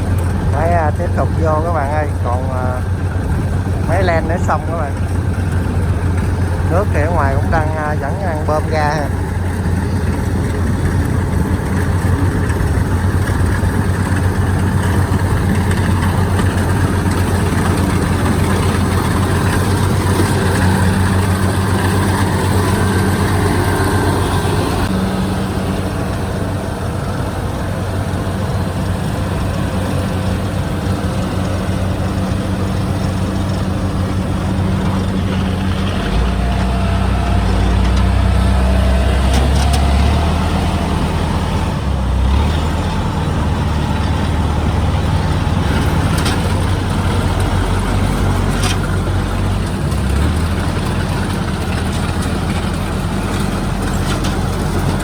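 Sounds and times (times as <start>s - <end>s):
combine harvester engine running: 0.0s - 55.0s.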